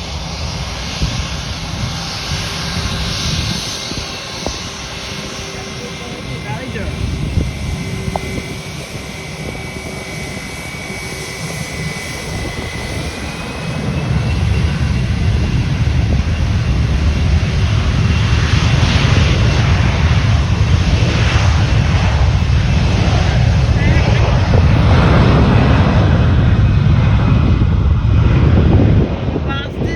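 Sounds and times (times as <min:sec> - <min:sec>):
airliner engines whining and rumbling: 0:00.0 - 0:29.9.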